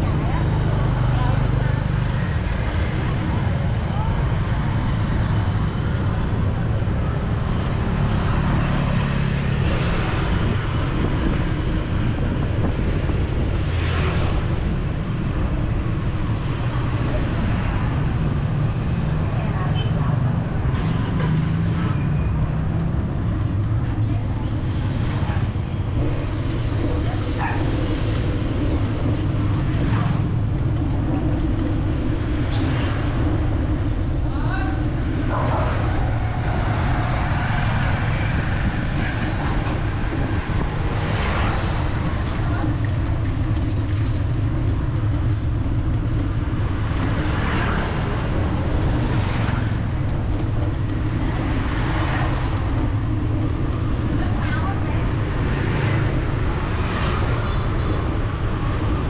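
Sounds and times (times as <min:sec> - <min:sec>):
street traffic rumble: 0:00.0 - 0:59.0
wind on microphone: 0:08.8 - 0:19.4, 0:20.2 - 0:59.0.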